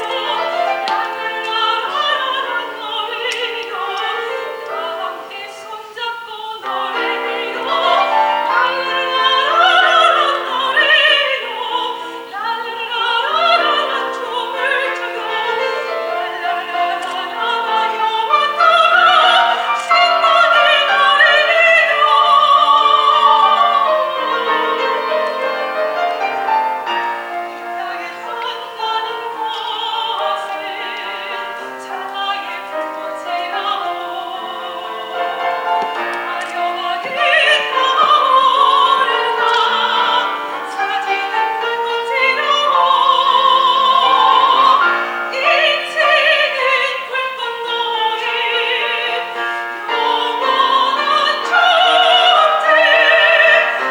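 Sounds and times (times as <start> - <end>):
piano accompaniment: 0.0 - 53.9
soprano singing operatic style: 0.0 - 53.9.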